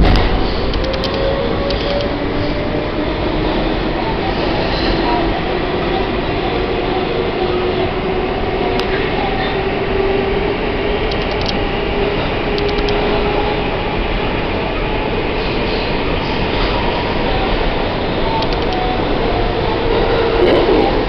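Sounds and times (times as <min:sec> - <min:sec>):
subway car rumble and rail roar: 0:00.0 - 0:21.0.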